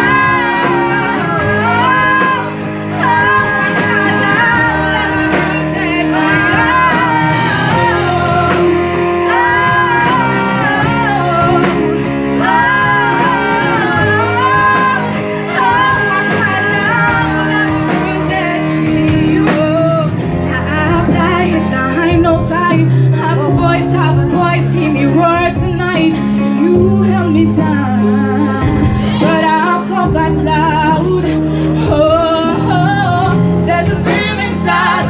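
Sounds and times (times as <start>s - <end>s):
instrumental backing: 0.0s - 35.0s
woman singing pop song: 0.0s - 35.0s.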